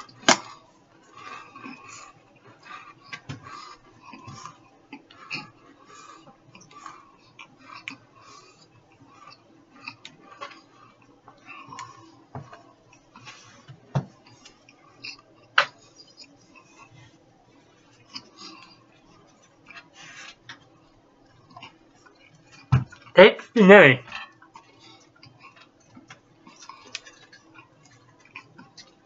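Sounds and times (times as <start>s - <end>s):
person chewing crackers: 0.0s - 23.1s, 24.2s - 29.0s.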